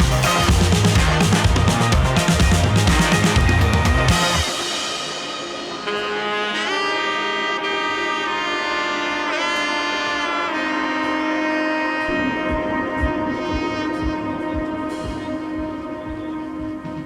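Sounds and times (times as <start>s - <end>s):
saxophone playing held notes: 0.0s - 17.0s
sustained brass or keyboard backing: 0.0s - 17.0s.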